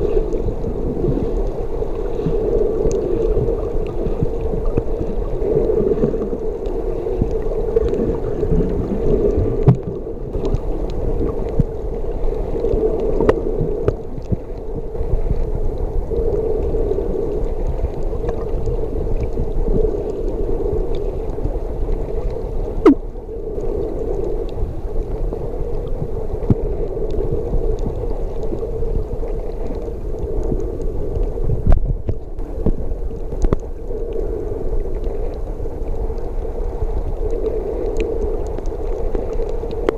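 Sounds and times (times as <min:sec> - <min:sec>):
underwater rushing seawater: 0:00.0 - 0:39.9.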